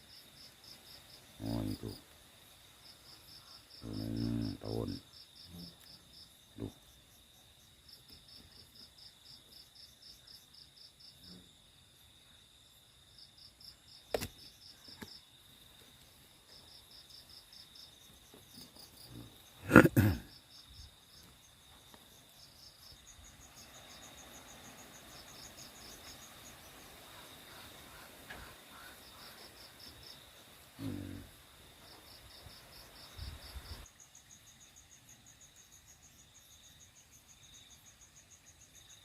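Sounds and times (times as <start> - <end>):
high-pitched insect trill: 0.0 - 28.1, 28.7 - 39.0
crickets chirping: 0.0 - 39.0.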